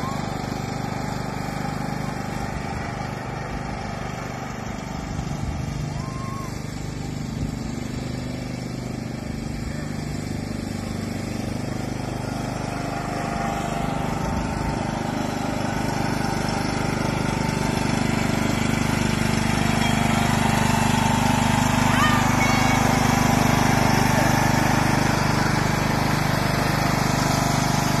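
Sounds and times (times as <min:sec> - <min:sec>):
riding lawn mower engine: 0:00.0 - 0:28.0.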